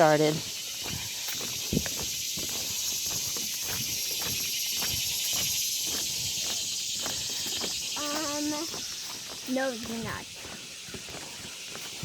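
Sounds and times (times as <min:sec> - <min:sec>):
footsteps on trail: 0:00.0 - 0:12.0
insects buzzing: 0:00.0 - 0:12.0.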